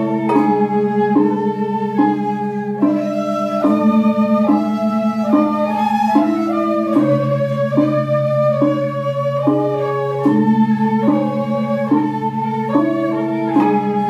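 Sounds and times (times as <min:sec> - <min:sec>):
bamboo flutes playing melody: 0:00.0 - 0:14.0.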